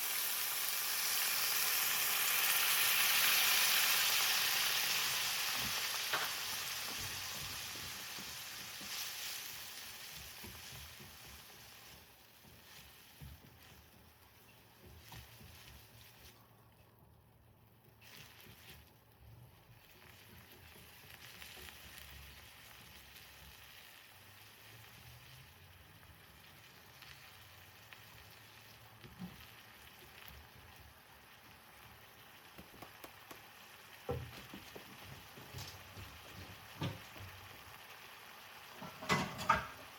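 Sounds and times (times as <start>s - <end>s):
food sizzling in a frying pan: 0.0s - 16.4s, 17.8s - 39.9s.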